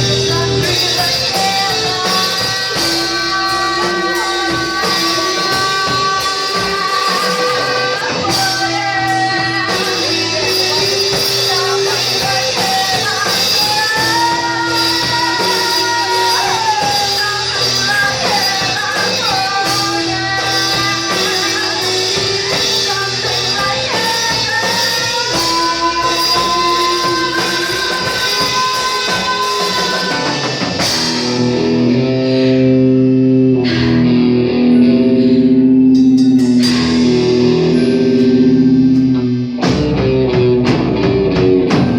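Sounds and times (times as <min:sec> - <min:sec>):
rock music with guitars and drums: 0:00.0 - 0:41.9.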